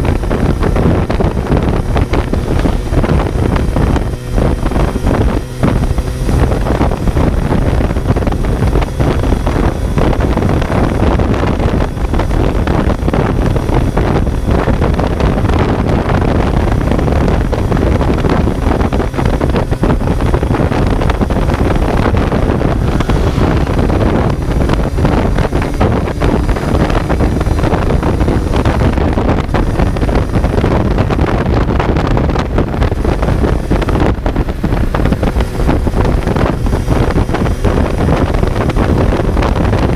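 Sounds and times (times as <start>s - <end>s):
motorcycle engine running: 0.0s - 39.9s
wind noise buffeting microphone: 0.0s - 39.9s.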